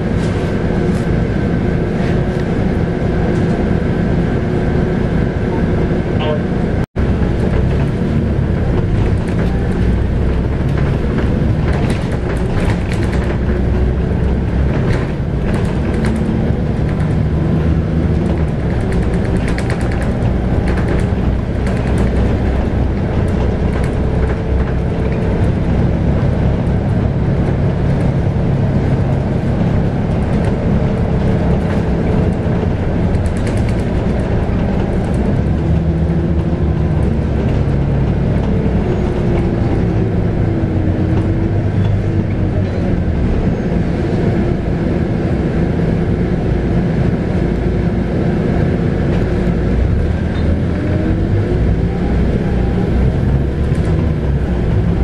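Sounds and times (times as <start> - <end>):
bus diesel engine running: 0.0 - 55.0
road noise: 0.0 - 55.0.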